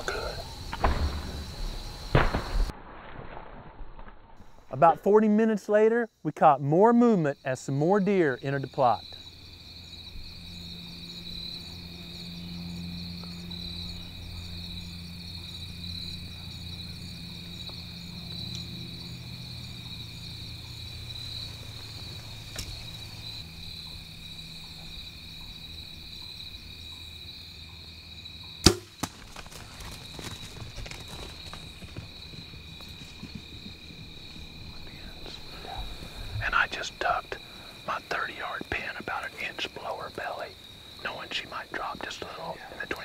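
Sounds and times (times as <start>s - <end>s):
crickets trilling: 0.0s - 2.7s, 4.4s - 43.0s.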